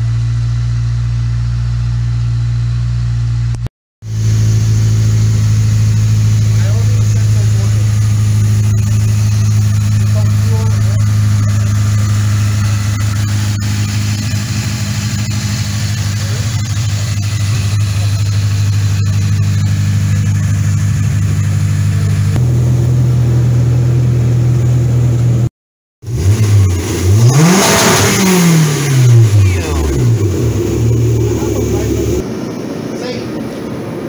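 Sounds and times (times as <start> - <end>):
engine idling: 0.0 - 34.0
engine revving up: 4.0 - 33.9.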